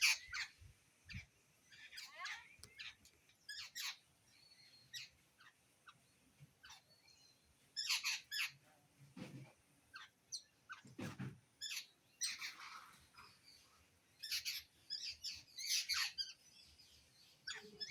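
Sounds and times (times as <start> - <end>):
birds chirping and squawking: 0.0 - 8.6, 9.8 - 17.9.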